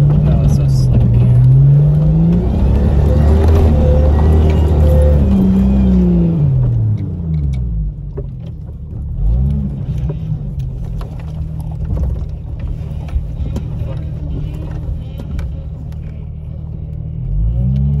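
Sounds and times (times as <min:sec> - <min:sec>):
car engine revving and droning: 0:00.0 - 0:18.0.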